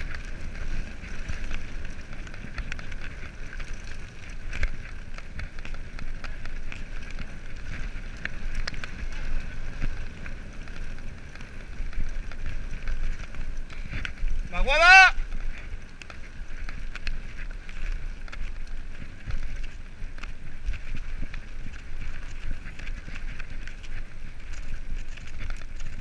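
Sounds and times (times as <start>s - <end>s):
bike clicking and rattling: 0.0s - 26.0s
bike tyres rumbling on dirt: 0.0s - 26.0s
wind on microphone: 0.0s - 26.0s.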